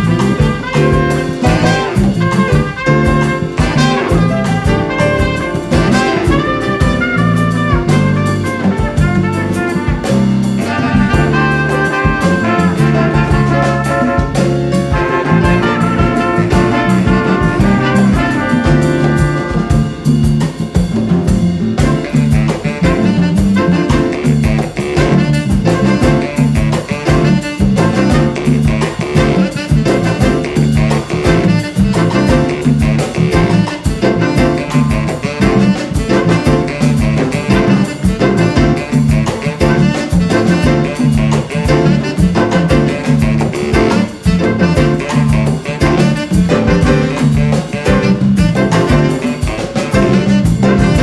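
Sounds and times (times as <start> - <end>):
congas: 0.0 - 51.0
drum kit: 0.0 - 51.0
electric bass: 0.0 - 51.0
piano: 0.0 - 51.0
trumpets and saxophones: 0.0 - 51.0.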